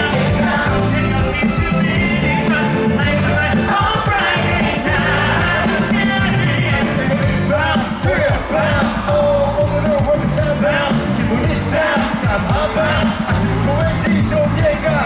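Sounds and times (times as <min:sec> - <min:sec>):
live band with steady beat: 0:00.0 - 0:15.0
men singing in group: 0:00.0 - 0:15.0.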